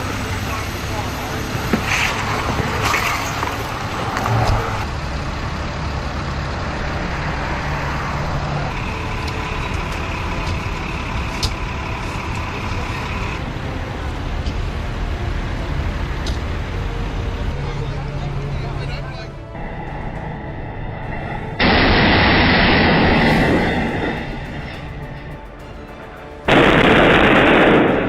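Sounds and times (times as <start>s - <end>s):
vehicle and road noise: 0.0s - 28.0s.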